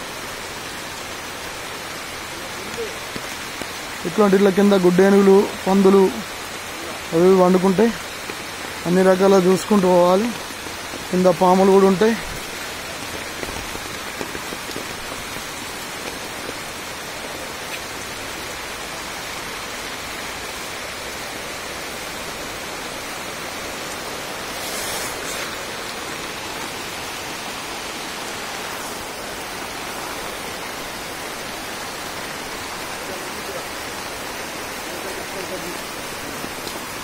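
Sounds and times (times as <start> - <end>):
heavy rain on foliage: 0.0 - 37.0
rushing stream: 0.0 - 37.0.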